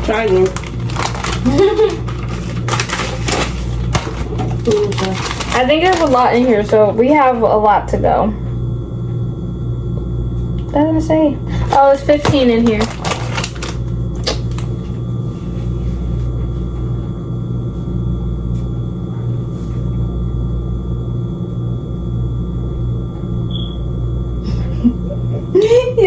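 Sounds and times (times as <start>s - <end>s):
faint high whine: 0.0s - 26.0s
low mechanical hum: 0.0s - 26.0s.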